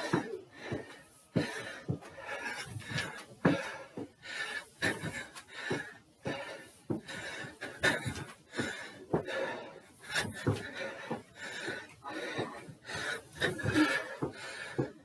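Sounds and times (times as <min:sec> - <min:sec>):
footsteps on wooden stairs: 0:00.0 - 0:15.0
heavy panting breaths: 0:00.0 - 0:15.0.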